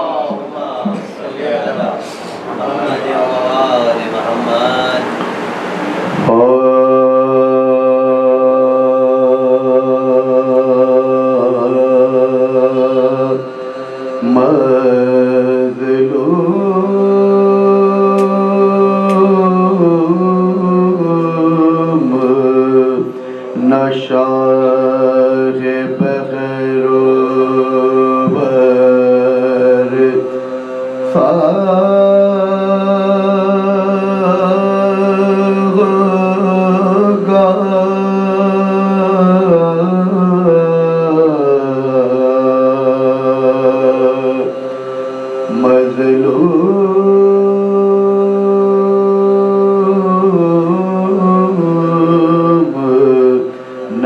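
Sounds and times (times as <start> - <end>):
men chanting: 0.0 - 5.2, 6.0 - 54.0.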